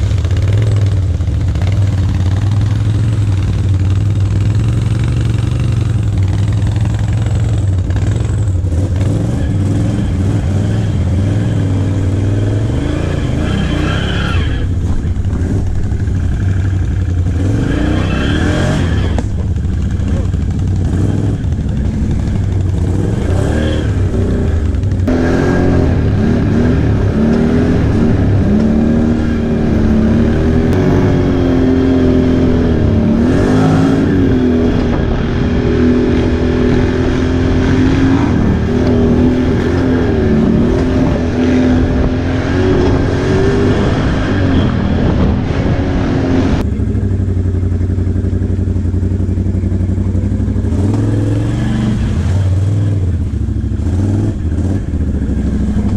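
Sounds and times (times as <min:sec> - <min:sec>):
atv engine revving: 0:00.0 - 0:55.9.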